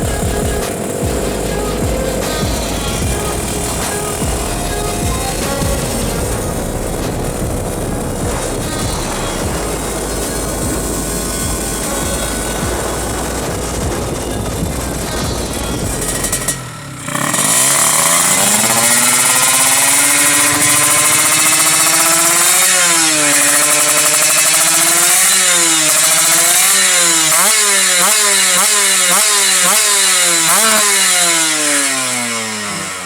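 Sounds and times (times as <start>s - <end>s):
two-stroke motorcycle engine revving: 0.0s - 33.0s.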